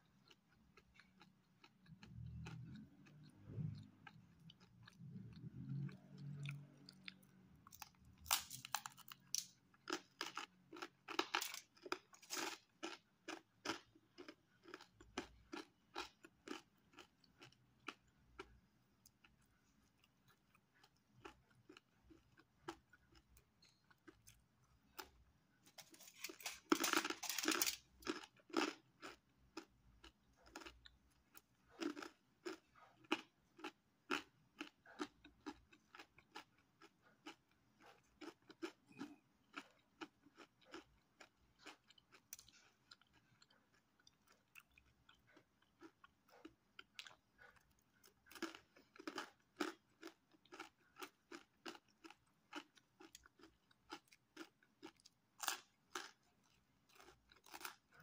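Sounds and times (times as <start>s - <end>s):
crunchy chewing of pizza crust: 0.0s - 58.0s.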